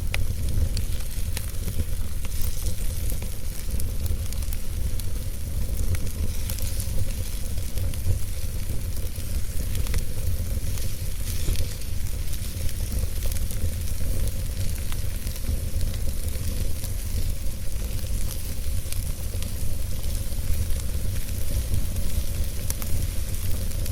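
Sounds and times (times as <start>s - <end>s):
campfire crackling: 0.0s - 23.9s.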